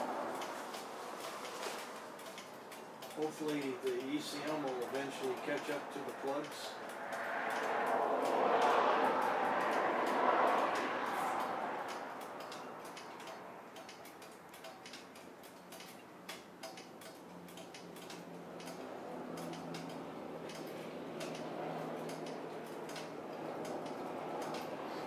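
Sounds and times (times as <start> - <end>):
light ticks and clicks: 0.0 - 25.0.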